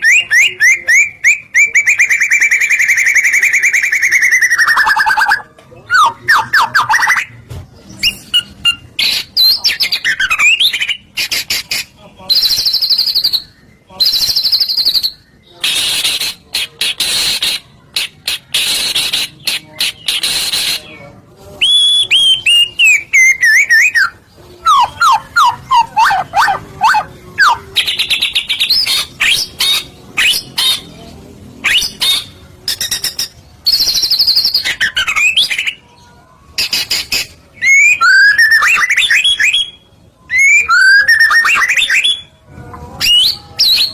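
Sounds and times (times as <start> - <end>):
bird singing varied song: 0.0 - 43.9.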